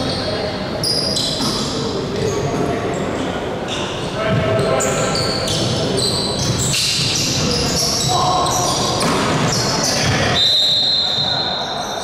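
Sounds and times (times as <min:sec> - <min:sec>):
sneaker squeaks: 0:00.0 - 0:12.0.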